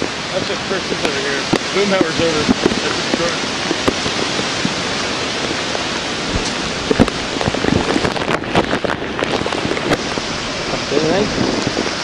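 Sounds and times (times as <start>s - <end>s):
heavy rain pouring: 0.0s - 12.0s
raindrops tapping camera: 0.0s - 12.0s.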